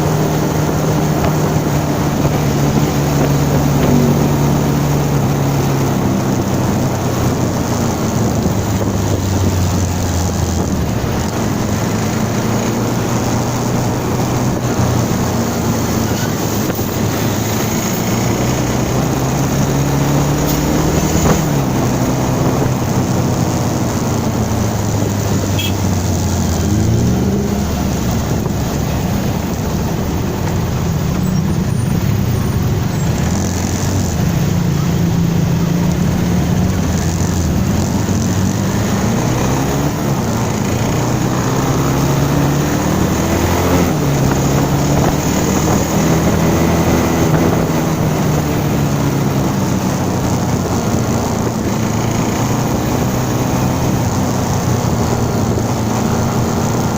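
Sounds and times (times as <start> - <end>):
car engine running: 0.0 - 56.9
road noise: 0.0 - 56.9.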